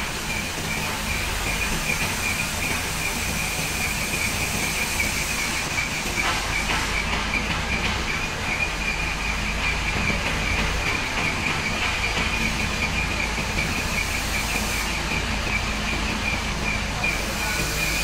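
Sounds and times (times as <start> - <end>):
diesel engine humming: 0.0 - 18.0
hydraulic pump whining: 0.0 - 18.0.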